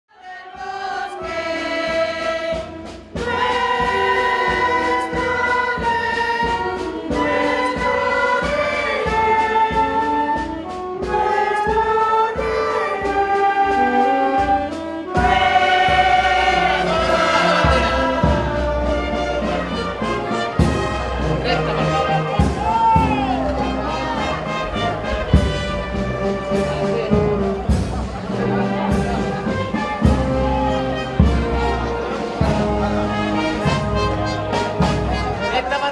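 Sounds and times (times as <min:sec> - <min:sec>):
choir singing held notes: 0:00.1 - 0:35.9
low accompaniment: 0:01.2 - 0:35.9.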